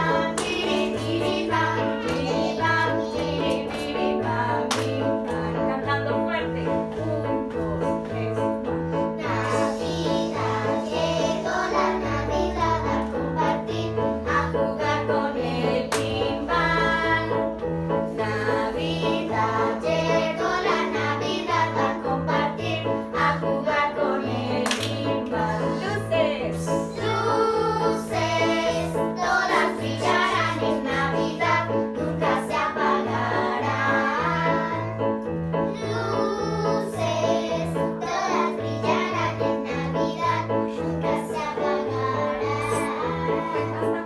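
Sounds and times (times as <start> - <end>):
girls singing together: 0.0 - 5.4, 9.2 - 35.0, 35.8 - 44.0.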